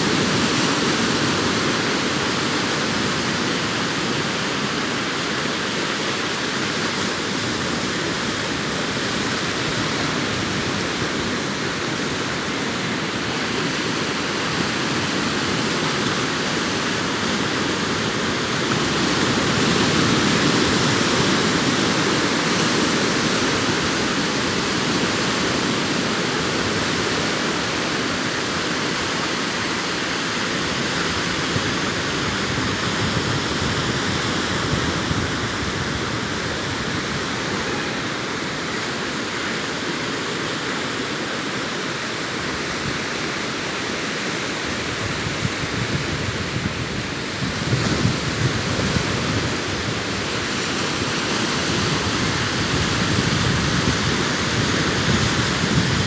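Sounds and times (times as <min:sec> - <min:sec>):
surf breaking on shore: 0:00.0 - 0:56.0.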